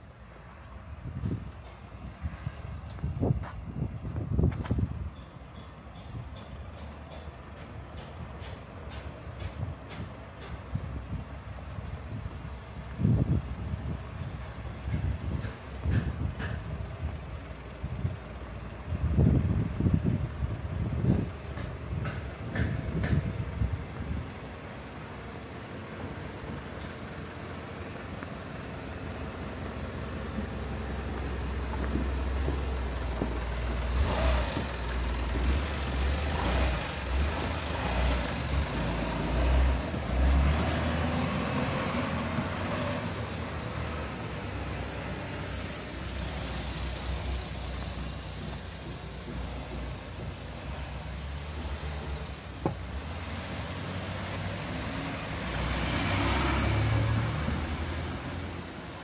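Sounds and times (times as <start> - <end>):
street noise: 0.0 - 59.0
vehicle engine rumble passing: 0.0 - 59.0.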